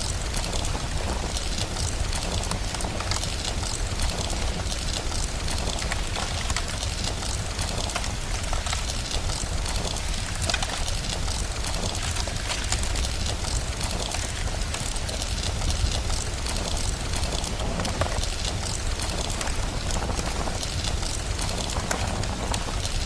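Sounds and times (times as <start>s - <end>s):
steady rain hiss: 0.0s - 23.0s
wood fire crackling: 0.0s - 23.0s.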